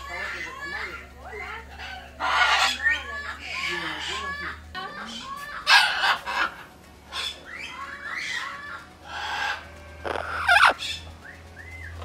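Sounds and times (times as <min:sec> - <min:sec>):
birds squawking: 0:00.0 - 0:12.0.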